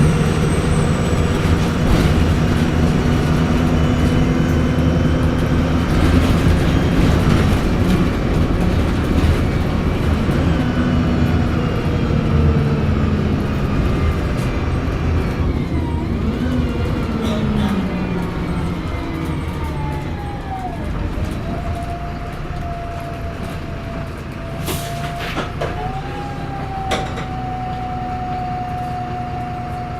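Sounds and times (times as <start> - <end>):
bus diesel engine drone: 0.0 - 29.9.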